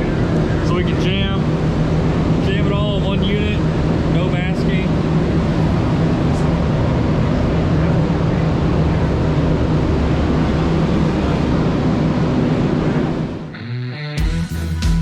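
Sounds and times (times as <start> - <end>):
paint booth drone: 0.0 - 15.0.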